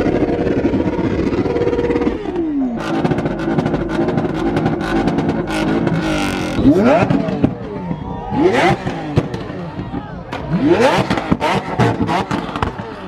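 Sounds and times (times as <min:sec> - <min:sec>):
engine revving: 0:00.0 - 0:13.0
exhaust crackles and pops: 0:00.0 - 0:13.0.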